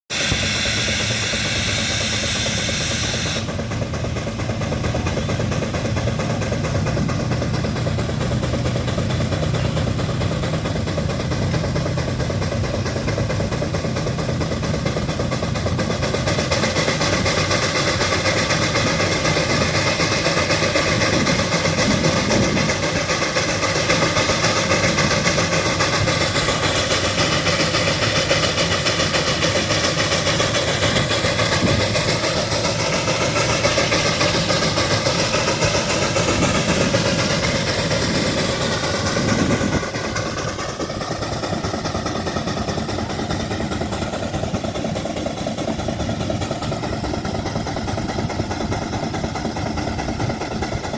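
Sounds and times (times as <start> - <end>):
steam engine running: 0.1 - 50.9
steam hissing: 0.1 - 50.9.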